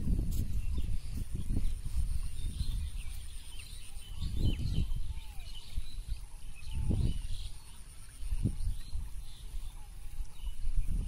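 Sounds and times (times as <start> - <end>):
small birds chirping: 0.0 - 11.0
wind gusting on microphone: 0.0 - 11.0.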